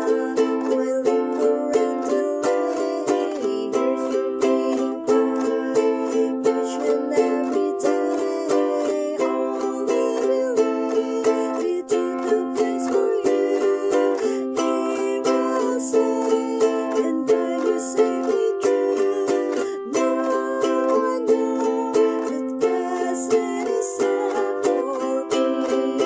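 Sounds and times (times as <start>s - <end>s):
plucked string music: 0.0s - 26.0s.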